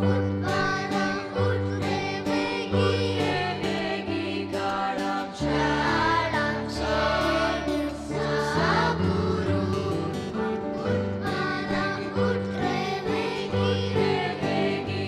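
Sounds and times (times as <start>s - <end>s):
group singing a carol: 0.0s - 15.0s.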